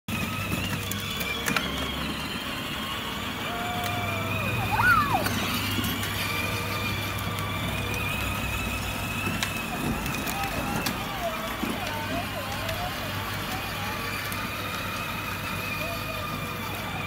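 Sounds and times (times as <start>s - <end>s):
toy car electric motor whining: 0.1s - 17.0s.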